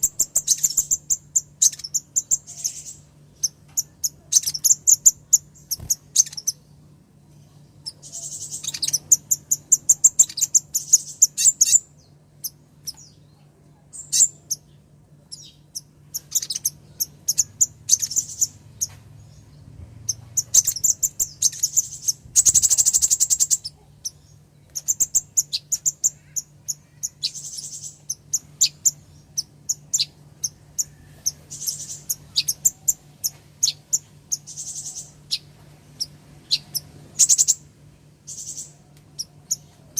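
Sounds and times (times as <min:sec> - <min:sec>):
sunbird chipping calls: 0:00.0 - 0:06.7, 0:07.8 - 0:13.3, 0:13.9 - 0:19.4, 0:20.0 - 0:37.6
buzzy bird trill: 0:00.0 - 0:39.9.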